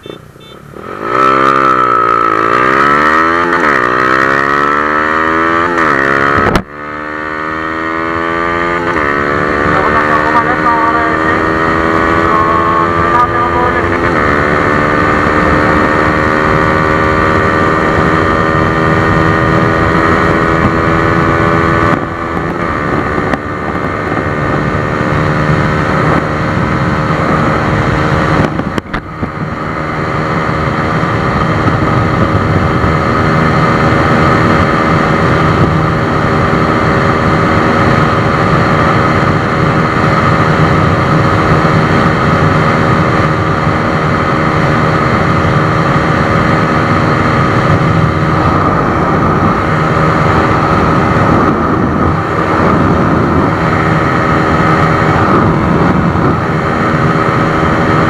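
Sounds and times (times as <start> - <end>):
motorcycle engine running hard: 0.0 - 58.0
wind rushing over microphone: 0.7 - 58.0.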